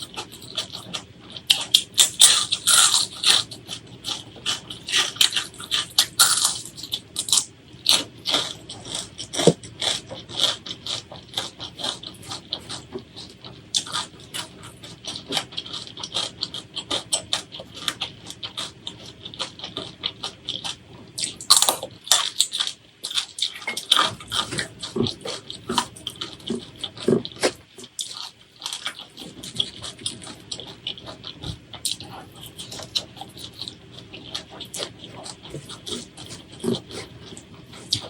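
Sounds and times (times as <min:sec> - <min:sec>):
wet chewing: 0:00.0 - 0:38.0.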